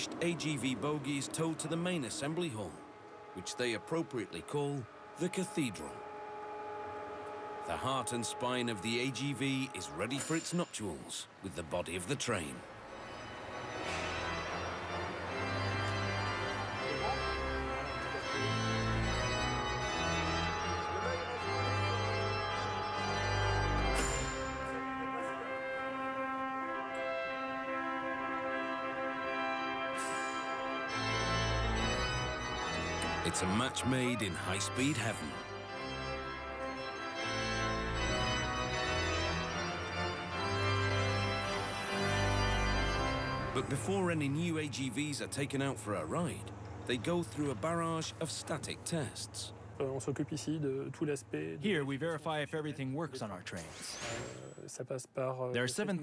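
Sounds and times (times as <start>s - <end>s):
organ chords: 0.0s - 10.5s, 12.6s - 49.8s.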